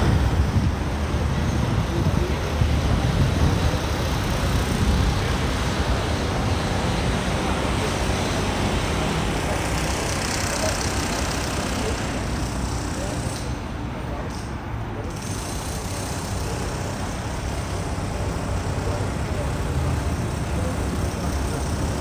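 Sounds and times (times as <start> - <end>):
rumble of cars: 0.0 - 22.0.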